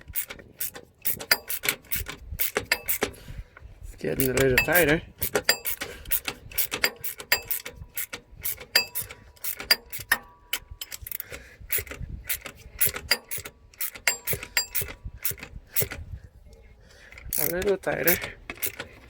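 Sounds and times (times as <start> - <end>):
ratchet wrench clicking: 0.0 - 3.2, 4.2 - 16.1, 17.2 - 19.0.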